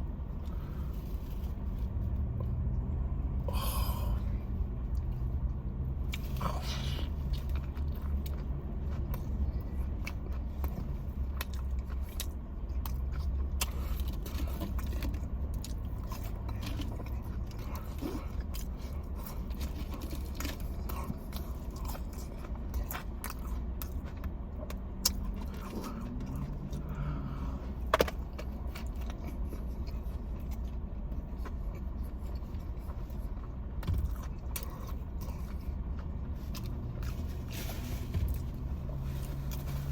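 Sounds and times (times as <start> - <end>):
low car cabin hum: 0.0 - 39.9
person biting and chewing food: 3.4 - 37.5.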